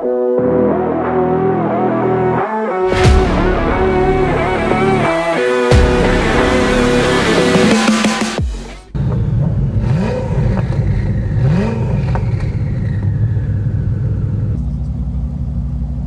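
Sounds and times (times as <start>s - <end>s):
car engine idling and revving: 2.9s - 16.0s.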